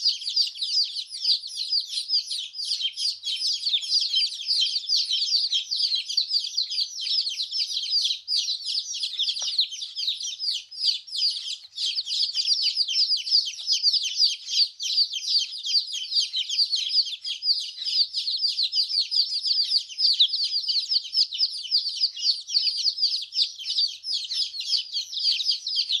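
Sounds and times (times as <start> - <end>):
baby chicks chirping: 0.0 - 26.0.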